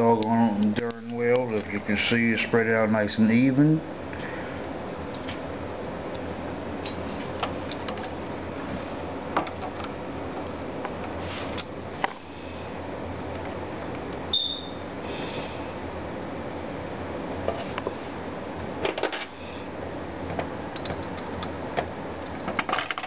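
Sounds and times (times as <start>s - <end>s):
room hum: 0.0s - 23.0s.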